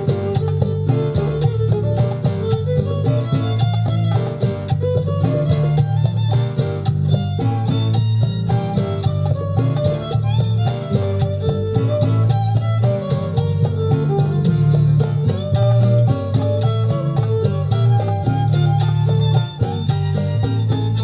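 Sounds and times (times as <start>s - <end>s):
guitar: 0.0s - 21.0s
steady bass line: 0.0s - 21.0s
violin: 0.0s - 21.0s.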